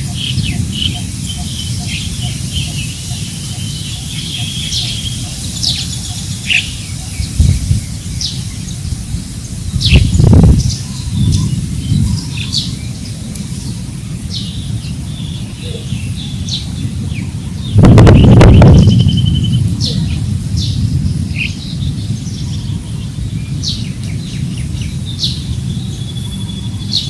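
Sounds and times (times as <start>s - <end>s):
birds chirping: 0.0s - 27.0s
wind rumbling on microphone: 0.0s - 27.0s.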